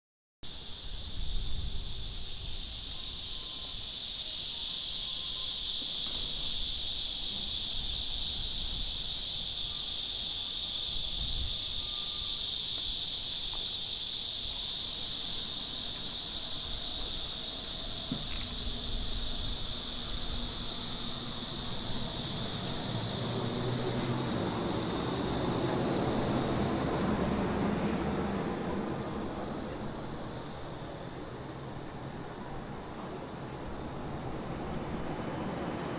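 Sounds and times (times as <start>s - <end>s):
cicadas chorus: 0.4s - 35.9s.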